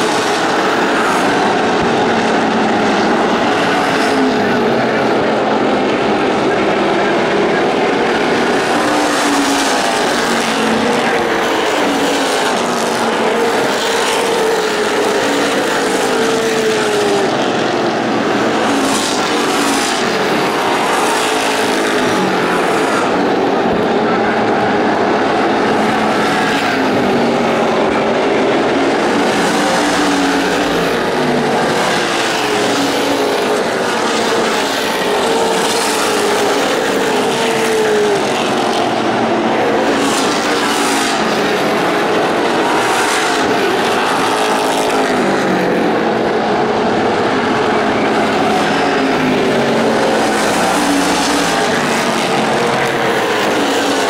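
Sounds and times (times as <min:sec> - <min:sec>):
racing car engines droning: 0:00.0 - 0:54.0.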